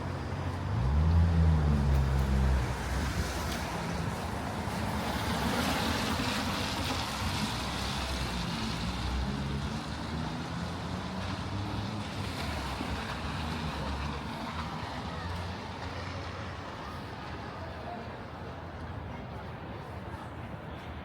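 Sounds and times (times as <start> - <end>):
street traffic passing: 0.0 - 21.0.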